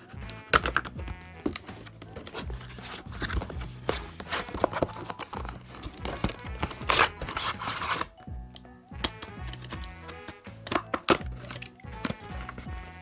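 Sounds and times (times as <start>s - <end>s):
background music: 0.0s - 13.0s
cardboard packaging scraping and rustling: 1.2s - 8.1s, 9.4s - 13.0s.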